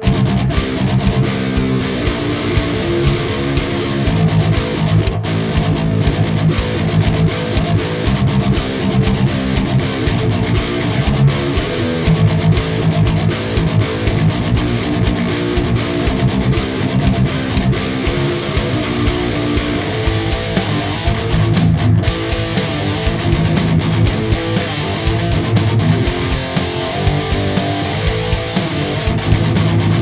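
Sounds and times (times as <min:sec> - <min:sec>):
distorted electric guitars: 0:00.0 - 0:30.0
driving drum beat: 0:00.0 - 0:30.0.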